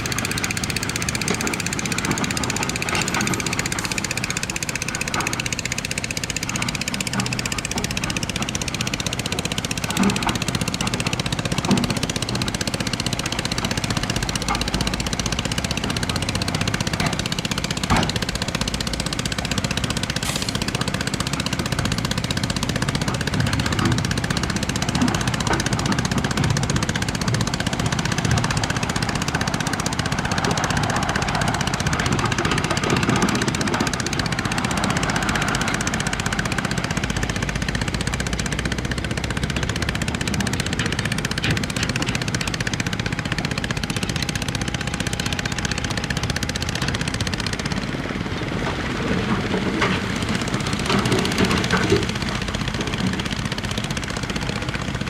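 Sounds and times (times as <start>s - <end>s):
heavy machinery diesel engines: 0.0s - 55.0s
working gravel and rock: 0.0s - 55.0s.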